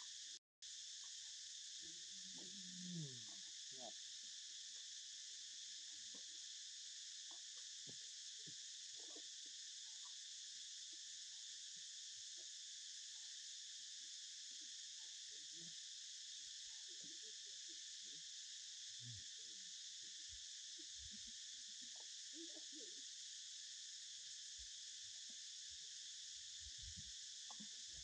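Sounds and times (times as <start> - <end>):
insects chorus hissing: 0.0 - 28.0.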